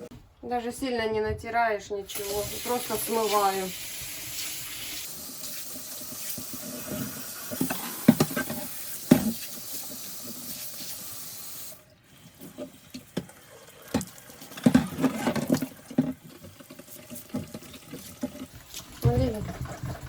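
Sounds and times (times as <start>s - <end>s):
kitchen tap running: 2.1s - 20.0s.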